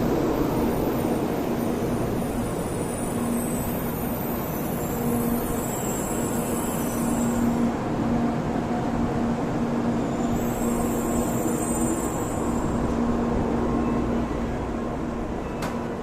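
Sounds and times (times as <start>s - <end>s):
train low hum and rumble: 0.0s - 16.0s.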